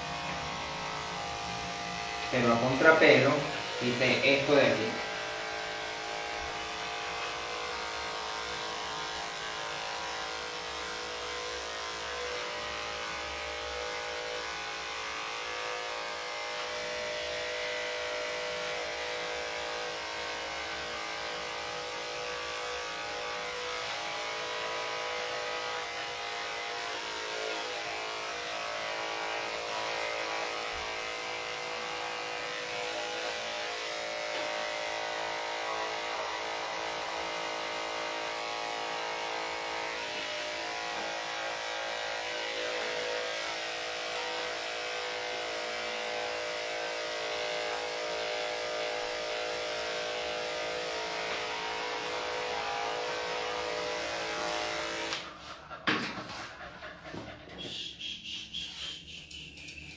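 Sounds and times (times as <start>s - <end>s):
electric clipper humming: 0.0s - 56.2s.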